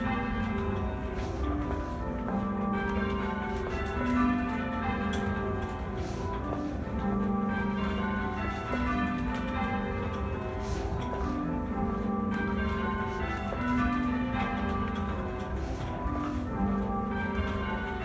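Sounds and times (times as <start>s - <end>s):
church bells ringing: 0.0s - 18.0s.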